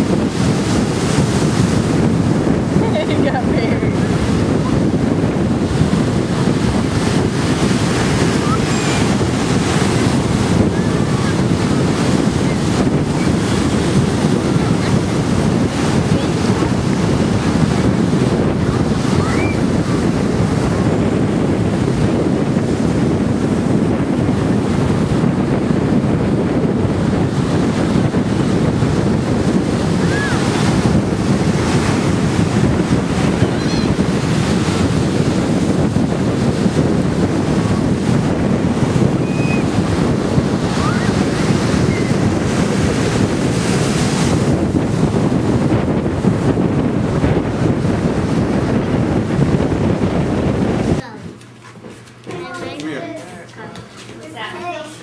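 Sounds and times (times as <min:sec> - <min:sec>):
ocean surf breaking: 0:00.0 - 0:51.0
wind buffeting microphone: 0:00.0 - 0:55.0.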